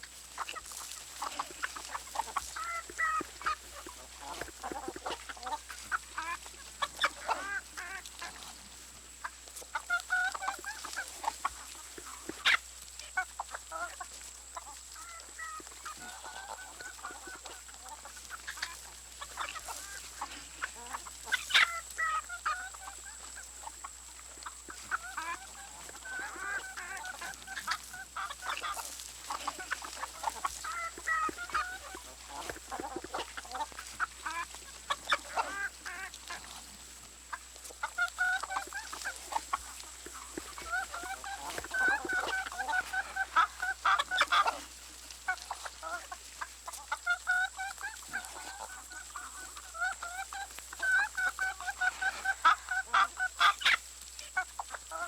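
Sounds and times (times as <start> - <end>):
poultry clucking and honking: 0.0 - 55.0.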